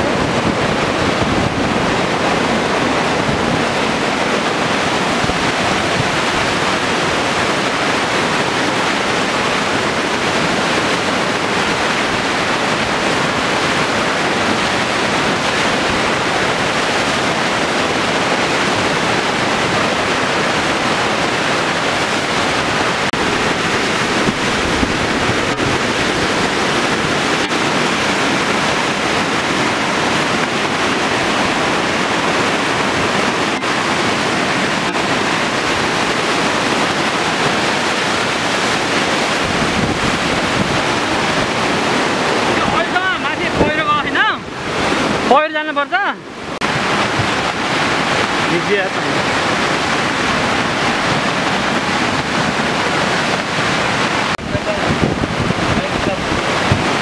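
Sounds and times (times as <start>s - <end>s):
river torrent rushing: 0.0s - 57.0s.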